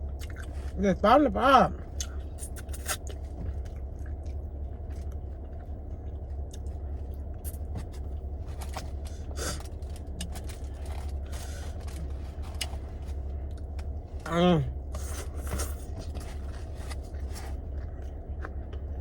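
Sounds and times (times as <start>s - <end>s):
chewing and crunching food: 0.0s - 0.8s, 1.8s - 14.2s, 14.8s - 19.0s
steady low hum: 0.0s - 19.0s.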